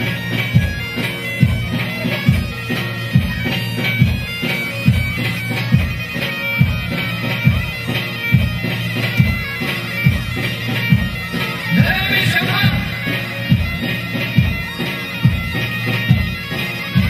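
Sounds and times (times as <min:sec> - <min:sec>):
heavy drum beat: 0:00.0 - 0:17.0
reedy bagpipe-like melody: 0:00.0 - 0:17.0.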